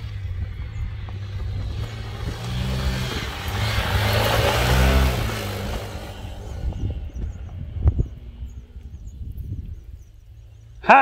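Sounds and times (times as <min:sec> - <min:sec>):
motorcycle engine riding: 0:00.0 - 0:11.0.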